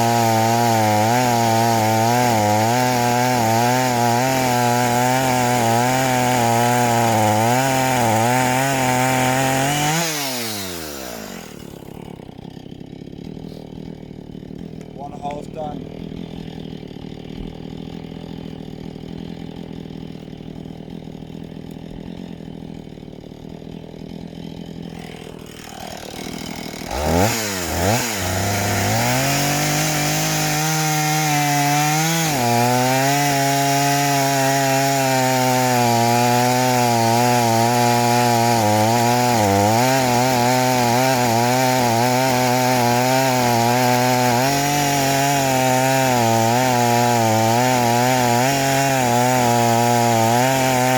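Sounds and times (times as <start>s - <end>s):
chainsaw cutting into log: 0.0s - 50.9s
chainsaw idling and revving: 0.0s - 50.9s.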